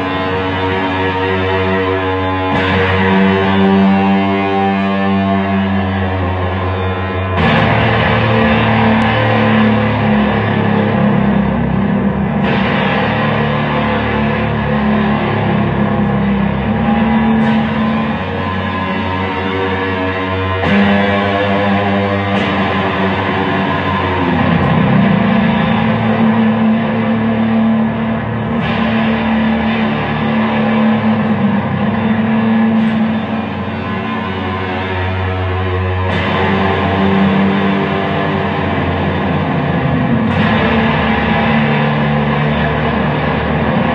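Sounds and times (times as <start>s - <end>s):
distorted electric guitar drone: 0.0s - 43.9s.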